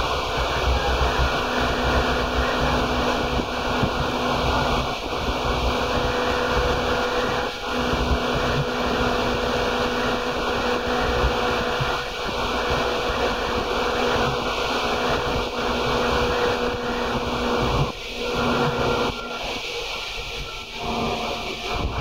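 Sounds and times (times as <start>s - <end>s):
low hum: 0.0s - 22.0s
train wheels rumbling on rail: 0.0s - 22.0s.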